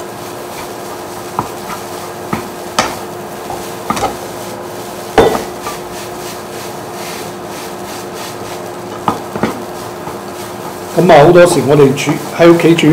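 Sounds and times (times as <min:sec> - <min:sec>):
steady hum: 0:00.0 - 0:12.9
spatula knocking and scraping wok: 0:00.4 - 0:12.8.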